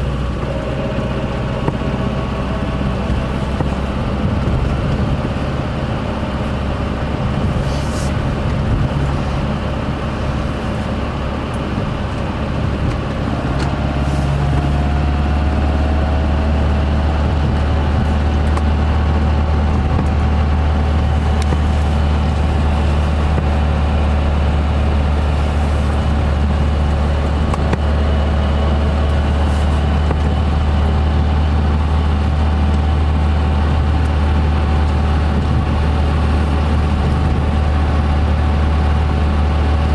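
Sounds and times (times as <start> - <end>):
car engine drone with whine: 0.0 - 39.9.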